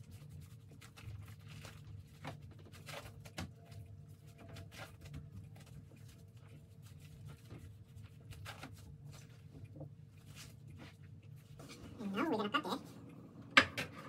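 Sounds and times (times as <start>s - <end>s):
hands rustling on bamboo mat: 0.0s - 11.9s.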